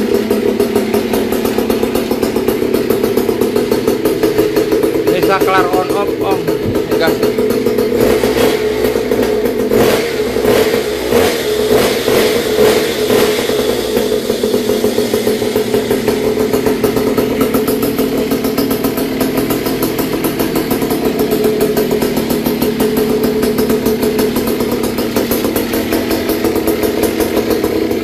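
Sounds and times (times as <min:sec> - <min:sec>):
scooter two-stroke engine running: 0:00.0 - 0:28.0.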